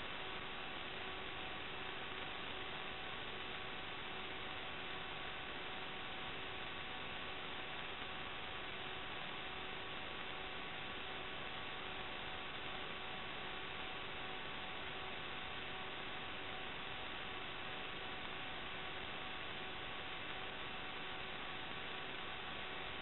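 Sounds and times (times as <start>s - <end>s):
electronic hiss: 0.0s - 23.0s
faint hum tones: 0.0s - 23.0s.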